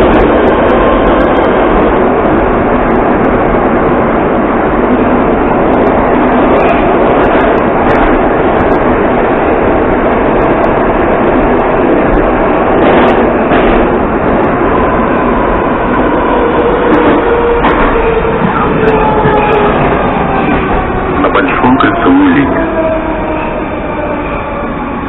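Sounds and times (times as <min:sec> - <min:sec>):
metro train wheels rumbling on rail: 0:00.0 - 0:25.0.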